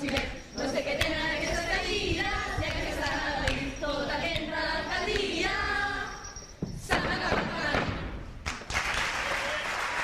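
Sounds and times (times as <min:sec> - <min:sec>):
group of voices singing: 0:00.0 - 0:08.2.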